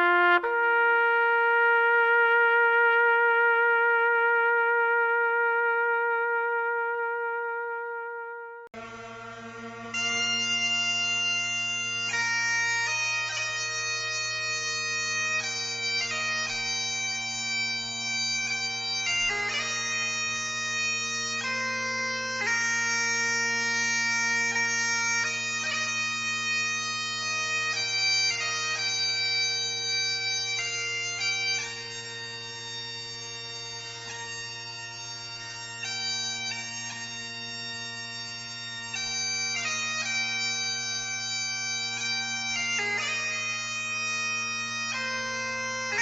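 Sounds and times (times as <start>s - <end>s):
bagpipe drones: 0.0s - 46.0s
bagpipes melody: 0.0s - 46.0s.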